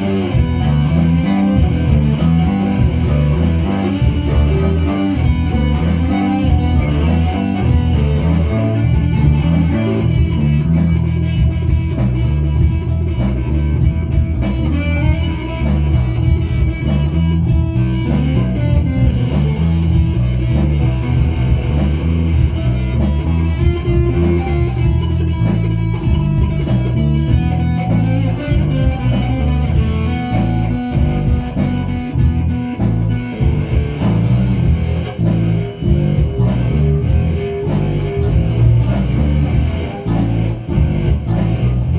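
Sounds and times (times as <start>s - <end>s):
electric guitars playing rock riff: 0.0s - 41.9s.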